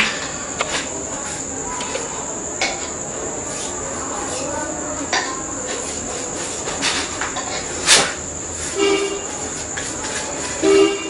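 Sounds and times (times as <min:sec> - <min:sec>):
steady high-pitched whine: 0:00.0 - 0:11.0.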